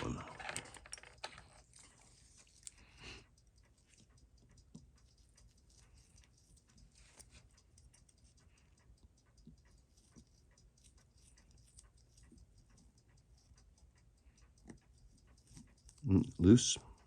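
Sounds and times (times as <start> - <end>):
small clicks of watchmaker's tools: 0.1 - 17.0.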